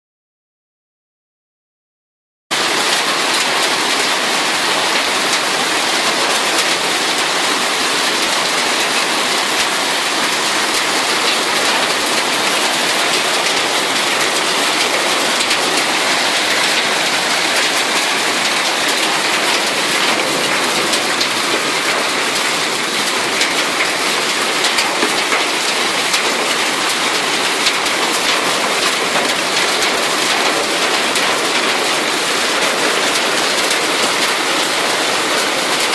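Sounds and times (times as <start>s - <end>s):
hail clattering on ground and buildings: 2.5s - 35.9s.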